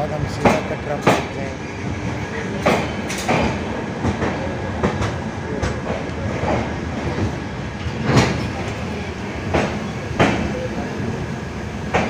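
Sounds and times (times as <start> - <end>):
wheels clacking over rail joints: 0.0 - 1.5, 2.4 - 10.7
train rumbling on rails: 0.0 - 12.0.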